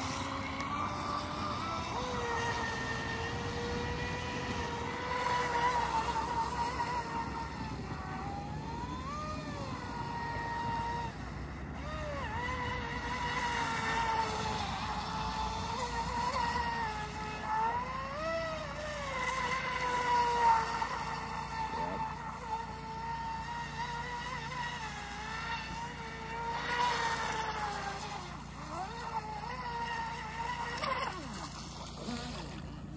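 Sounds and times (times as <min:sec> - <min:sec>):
boat motor whining: 0:00.0 - 0:32.9.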